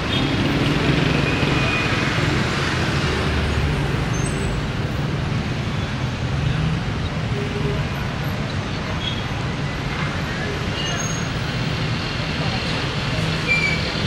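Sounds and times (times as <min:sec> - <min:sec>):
passing cars: 0:00.0 - 0:14.0.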